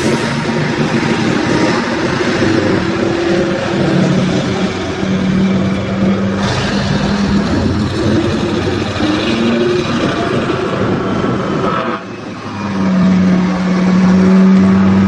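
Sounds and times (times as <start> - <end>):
loud rushing noise: 0.0 - 15.0
vehicle engine running: 0.0 - 15.0.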